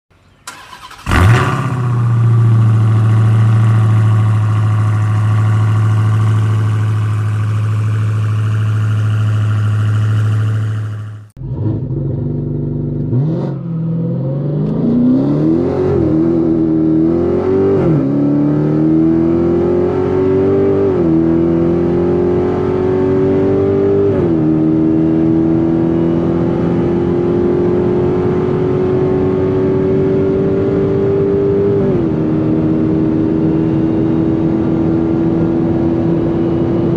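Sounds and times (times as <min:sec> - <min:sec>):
car engine accelerating through gears: 0:00.5 - 0:36.9.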